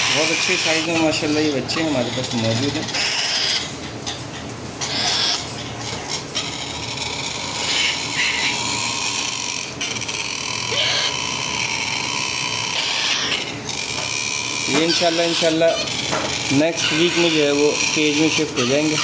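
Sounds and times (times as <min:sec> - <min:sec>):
chicks rasping begging calls: 0:00.0 - 0:19.0.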